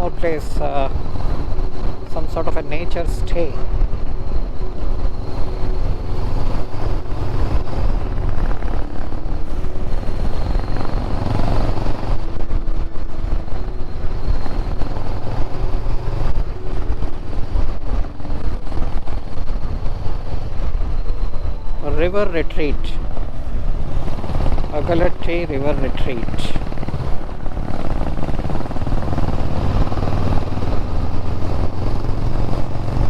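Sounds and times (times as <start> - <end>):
motorcycle running: 0.0 - 33.0
wind buffeting microphone: 0.0 - 33.0.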